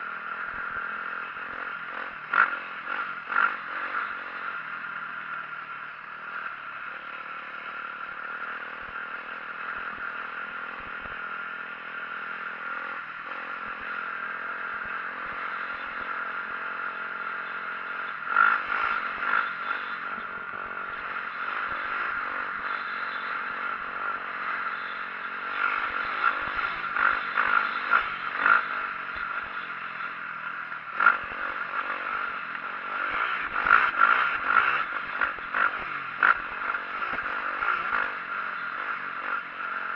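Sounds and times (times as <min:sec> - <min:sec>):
dirt bike engine revving: 0:00.0 - 0:05.2, 0:06.2 - 0:39.9.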